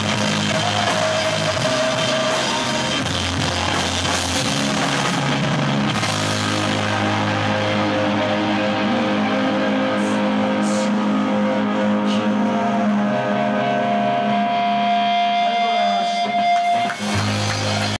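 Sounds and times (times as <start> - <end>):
steady high tone: 0.0 - 16.9
electric guitar chords ringing: 0.0 - 18.0
live band music: 0.0 - 18.0.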